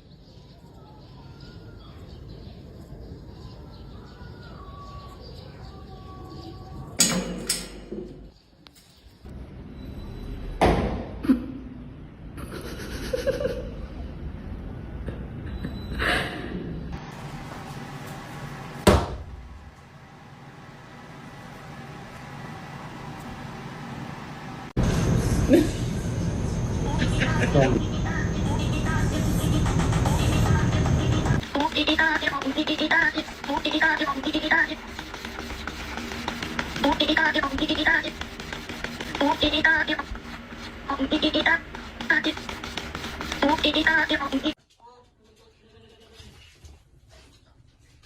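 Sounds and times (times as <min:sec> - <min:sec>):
steady background noise: 0:00.0 - 0:45.4.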